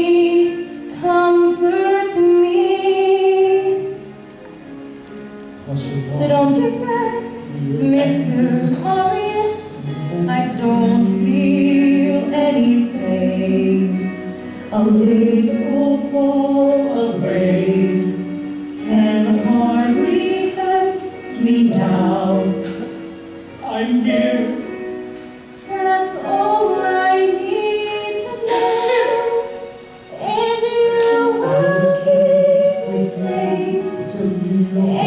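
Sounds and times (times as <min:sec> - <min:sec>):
instrumental accompaniment: 0:00.0 - 0:35.0.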